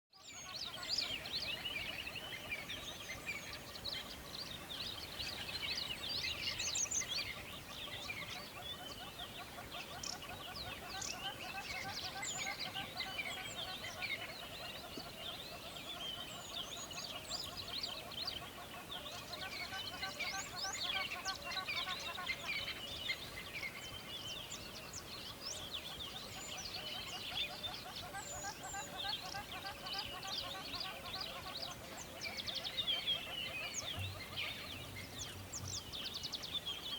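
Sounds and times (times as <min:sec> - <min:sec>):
birds chirping chorus: 0:00.1 - 0:36.9.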